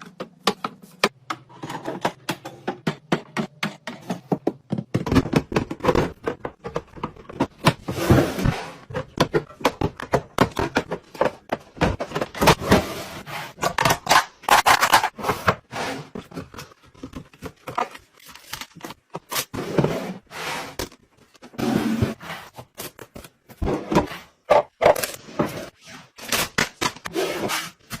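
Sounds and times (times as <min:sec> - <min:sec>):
items clicking and knocking: 0:00.0 - 0:12.8, 0:13.5 - 0:19.9, 0:22.6 - 0:27.1.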